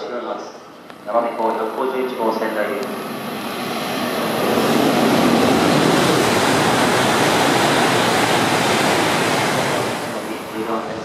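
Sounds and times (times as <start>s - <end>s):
high-speed train rushing past: 0.0s - 11.0s.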